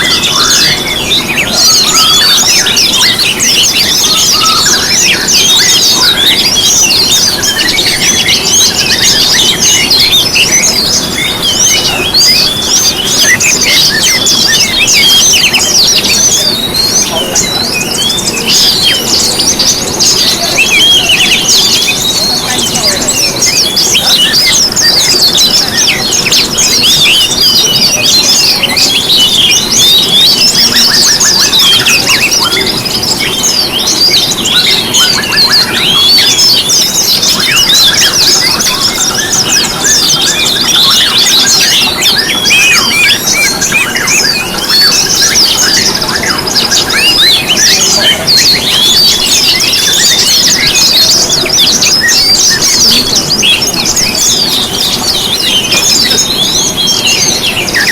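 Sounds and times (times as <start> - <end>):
songbirds chirping and twittering: 0.0 - 57.9.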